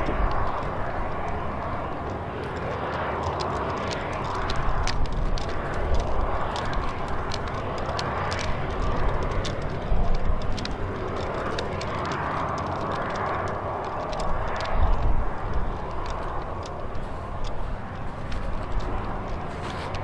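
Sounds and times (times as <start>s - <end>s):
aircraft engine hum: 0.0s - 20.0s
wind buffeting microphone: 0.0s - 20.0s.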